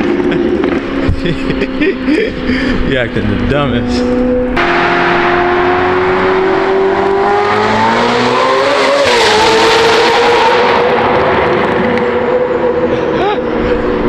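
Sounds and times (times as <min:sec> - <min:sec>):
sports car accelerating hard: 0:00.0 - 0:14.0.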